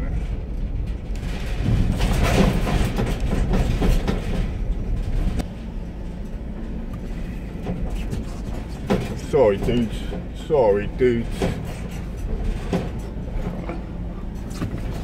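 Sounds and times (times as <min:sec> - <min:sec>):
rattling and clattering: 0:00.0 - 0:15.0
van engine and road rumble: 0:00.0 - 0:15.0.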